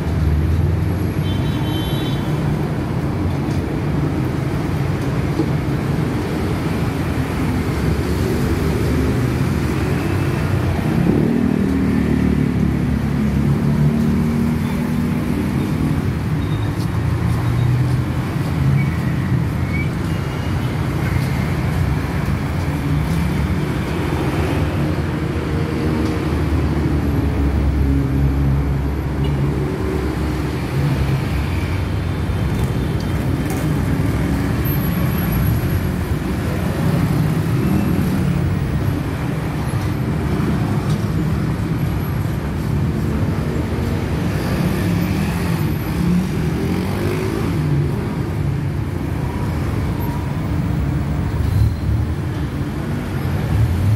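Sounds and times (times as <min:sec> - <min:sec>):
street traffic engine rumble: 0:00.0 - 0:53.9
vehicles passing: 0:00.0 - 0:53.9.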